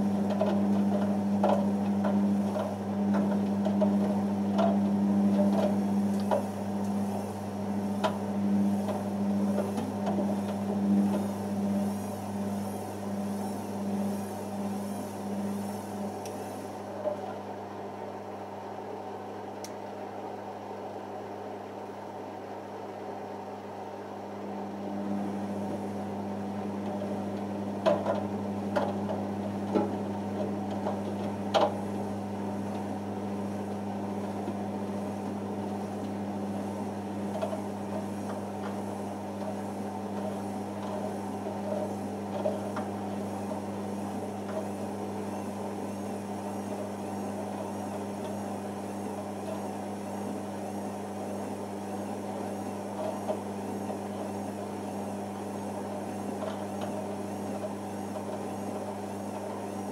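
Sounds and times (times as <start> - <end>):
washing machine spinning hum: 0.0 - 59.9.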